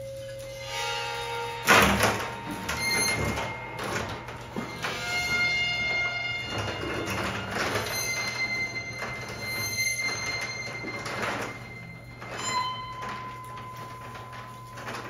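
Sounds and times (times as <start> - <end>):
held ringing tones: 0.0 - 15.0
scraping and rubbing noises: 0.0 - 15.0.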